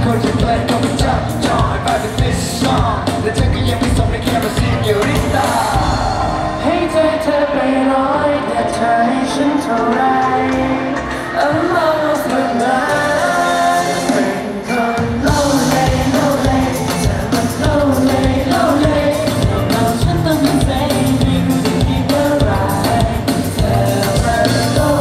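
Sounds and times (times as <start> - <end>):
drums and bass beat: 0.0 - 7.2, 9.6 - 25.0
live band playing: 0.0 - 25.0
men singing into microphones: 0.0 - 25.0.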